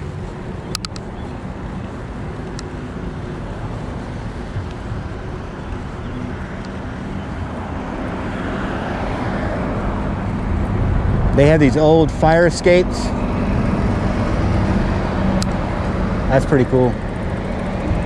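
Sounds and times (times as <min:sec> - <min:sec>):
rumble of passing cars: 0:00.0 - 0:18.0.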